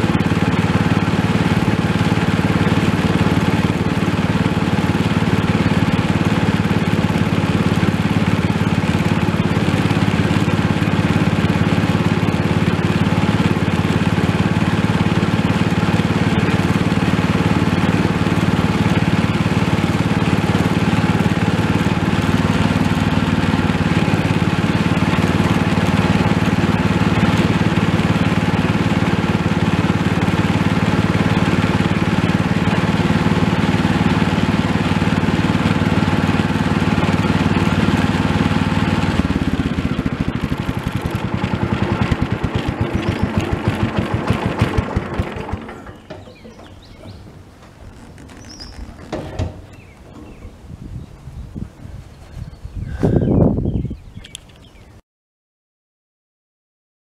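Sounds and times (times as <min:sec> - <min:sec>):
vehicle engine droning: 0:00.0 - 0:50.5.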